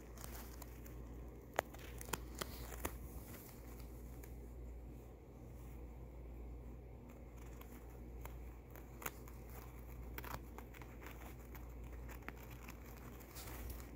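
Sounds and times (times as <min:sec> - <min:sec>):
paper towel crinkling: 0:00.0 - 0:04.8, 0:07.0 - 0:13.9
steady low hum: 0:00.0 - 0:13.9.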